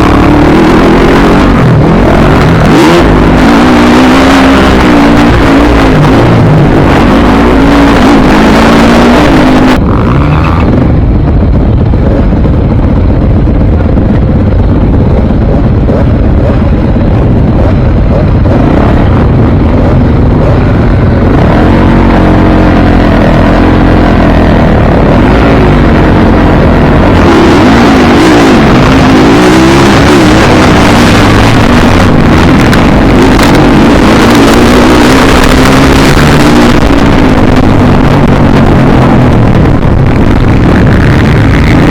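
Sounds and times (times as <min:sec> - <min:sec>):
dirt bike engine revving: 0:00.0 - 0:41.9
heavy low rumble: 0:00.0 - 0:41.9.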